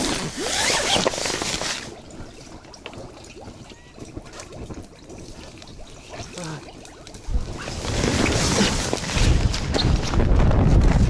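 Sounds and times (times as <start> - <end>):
loud gurgling rush: 0.0 - 10.4
small crackles: 0.0 - 11.0.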